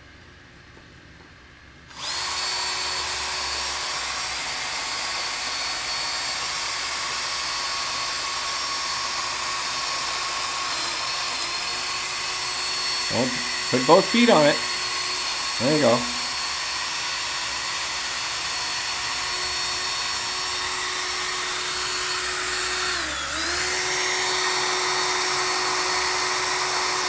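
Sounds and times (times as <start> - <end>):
cordless drill boring into wood: 1.9 - 27.0.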